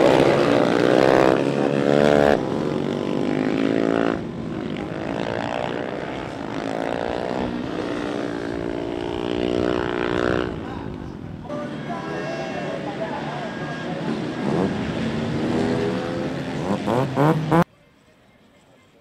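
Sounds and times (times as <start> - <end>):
racing motorcycle engines revving: 0.0 - 17.7.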